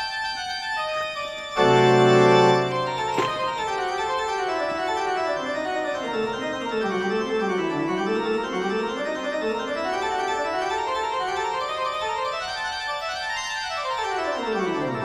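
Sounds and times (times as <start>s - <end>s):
organ-like keyboard music: 0.0s - 15.0s.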